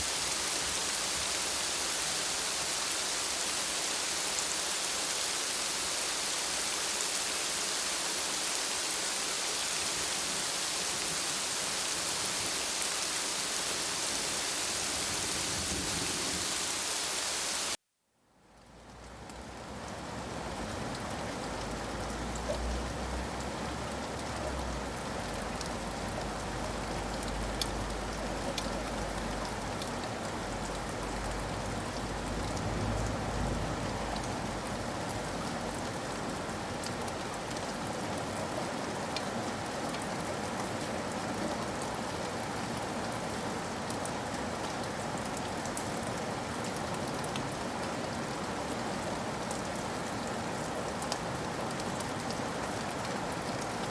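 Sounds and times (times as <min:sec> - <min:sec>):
steady rainfall: 0:00.0 - 0:17.8, 0:18.5 - 0:53.9.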